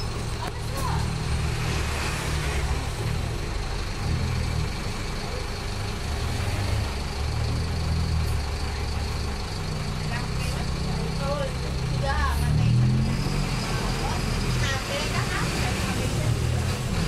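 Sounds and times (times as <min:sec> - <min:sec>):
bus cabin noise: 0:00.0 - 0:17.0
bus diesel engine running: 0:00.0 - 0:17.0.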